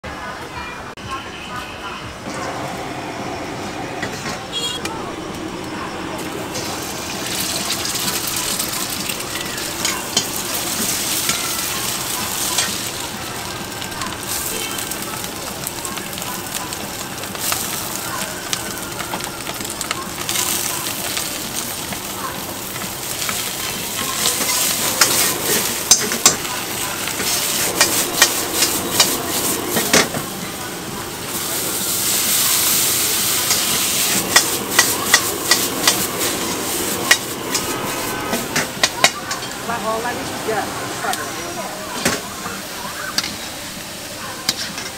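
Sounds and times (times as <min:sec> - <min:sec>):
food sizzling in hot oil: 0:05.4 - 0:44.9.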